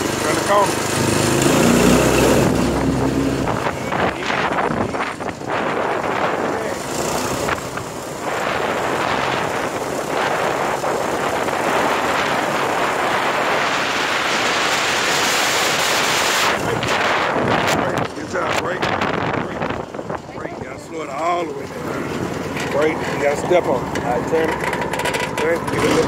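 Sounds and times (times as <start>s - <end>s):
go-kart engine running: 0.0s - 26.0s
wind and road noise: 0.0s - 26.0s.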